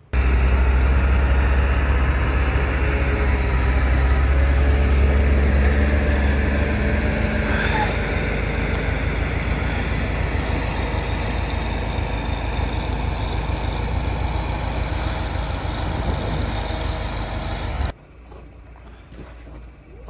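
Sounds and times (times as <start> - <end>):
wheel loader diesel engine: 0.0 - 20.0.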